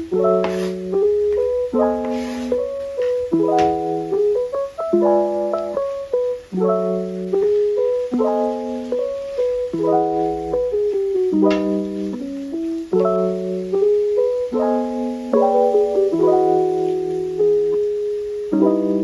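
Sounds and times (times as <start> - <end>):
mellow instrumental music: 0.0 - 19.0.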